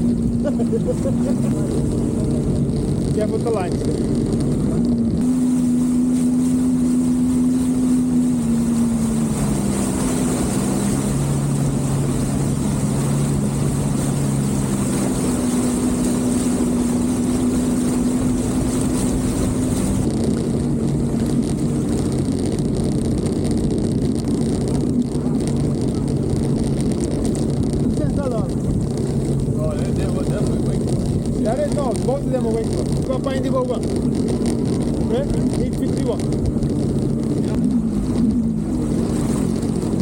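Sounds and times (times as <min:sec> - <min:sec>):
rush of wind and water: 0:00.0 - 0:40.0
watercraft engine running: 0:00.0 - 0:40.0.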